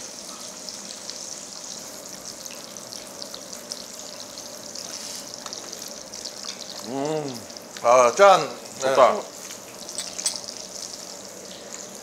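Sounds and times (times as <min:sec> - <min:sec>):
intestines sizzling on a grill: 0:00.0 - 0:12.0.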